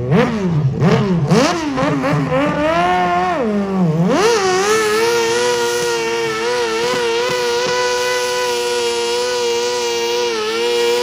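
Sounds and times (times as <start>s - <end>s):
garden tractor engine revving: 0.0s - 11.0s.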